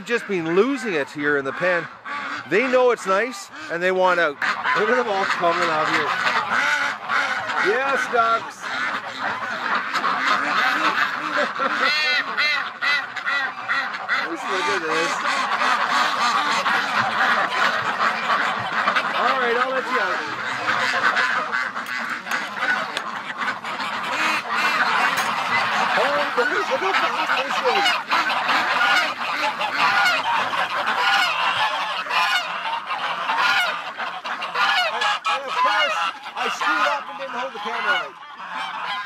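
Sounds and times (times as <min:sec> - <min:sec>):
ducks quacking: 0:00.0 - 0:39.0
geese honking: 0:00.0 - 0:39.0.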